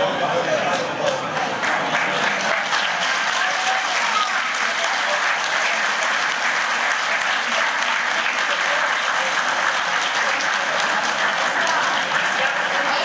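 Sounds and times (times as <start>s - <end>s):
crowd applauding: 0.7s - 13.0s.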